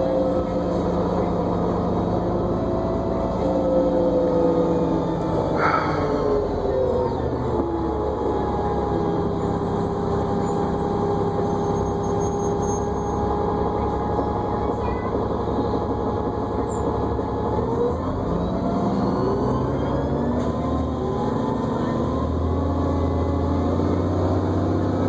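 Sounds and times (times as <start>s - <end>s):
bus engine whining: 0.0s - 25.0s.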